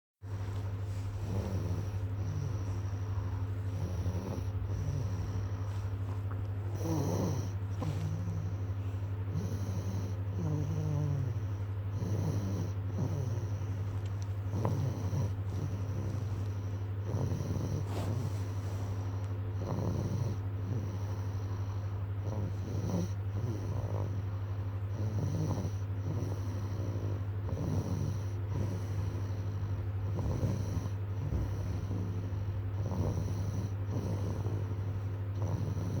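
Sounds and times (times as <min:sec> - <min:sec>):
steady low hum: 0:00.2 - 0:36.0
snoring: 0:00.4 - 0:36.0.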